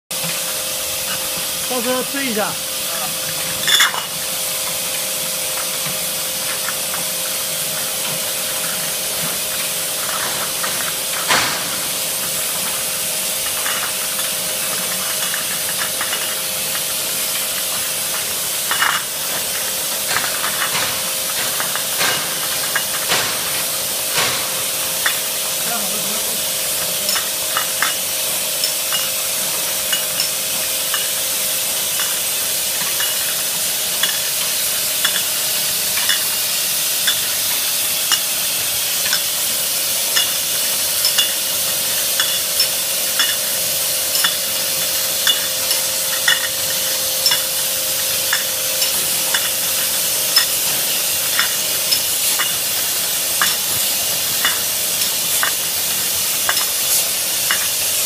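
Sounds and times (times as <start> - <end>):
bottling machine hiss: 0.1 - 58.0
glass bottles clinking: 3.1 - 4.3, 7.7 - 31.2, 31.8 - 33.4, 34.0 - 36.4, 40.0 - 58.0.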